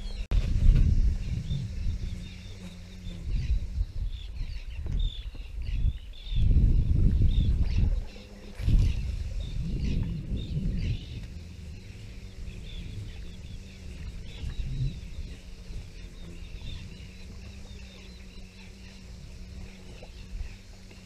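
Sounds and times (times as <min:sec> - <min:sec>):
birds chirping: 0:00.0 - 0:21.0
wind rumble on microphone: 0:00.0 - 0:21.0.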